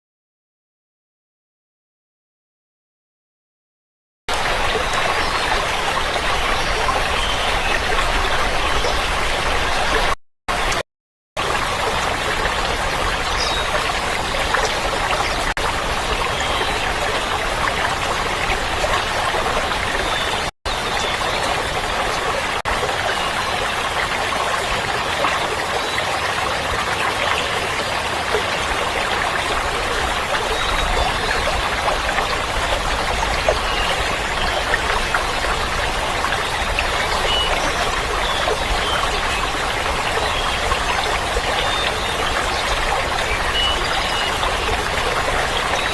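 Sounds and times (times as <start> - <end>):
water flowing: 4.3 - 10.8, 11.4 - 45.9.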